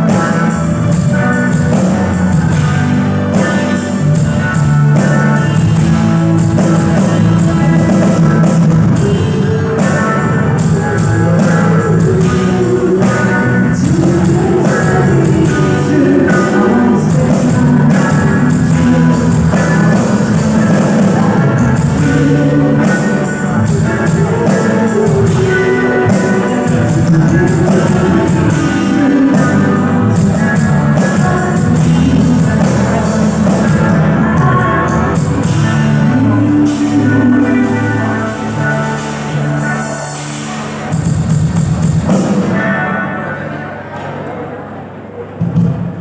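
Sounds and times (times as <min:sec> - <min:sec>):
live rock band playing: 0:00.0 - 0:44.1
person singing: 0:00.0 - 0:45.2
electric guitar: 0:00.0 - 0:46.0.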